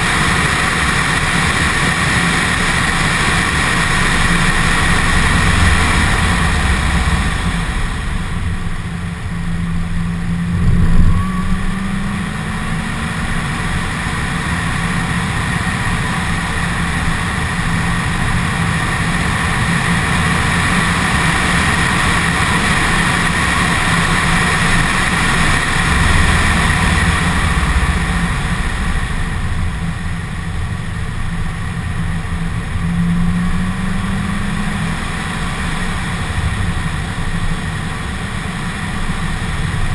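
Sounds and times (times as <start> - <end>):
car engine revving under load: 0.0 - 39.9
supercharger whine: 0.0 - 39.9.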